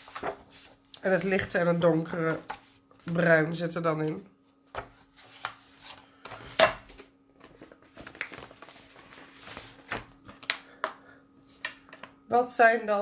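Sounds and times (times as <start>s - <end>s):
plastic sleeves rustling: 0.0s - 12.2s
faint steady hum: 0.0s - 13.0s.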